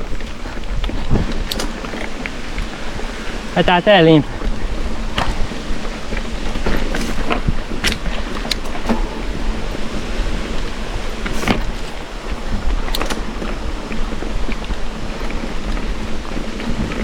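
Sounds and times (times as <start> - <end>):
bicycle tyres rolling on dirt: 0.0 - 17.0
gravel clicks and knocks: 0.0 - 17.0
wind buffeting microphone: 0.0 - 17.0.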